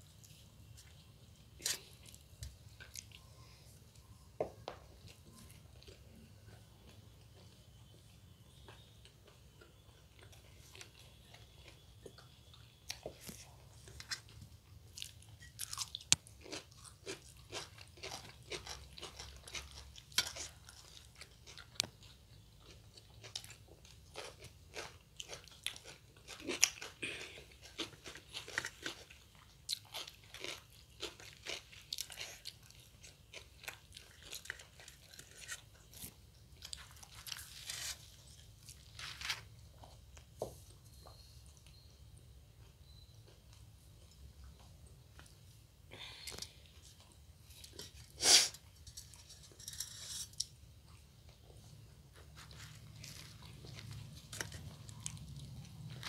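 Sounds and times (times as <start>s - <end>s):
people chewing food: 0.0s - 56.0s.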